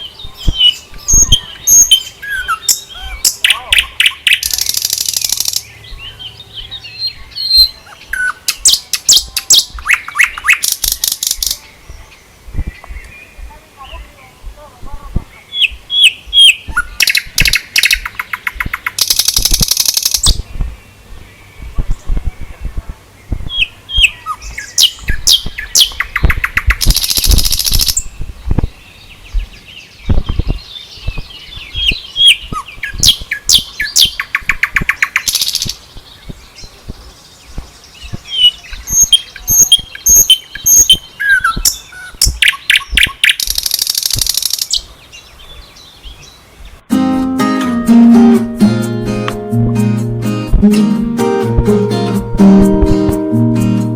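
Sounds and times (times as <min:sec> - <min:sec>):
birds singing with buzzy trills: 0:00.0 - 0:53.9.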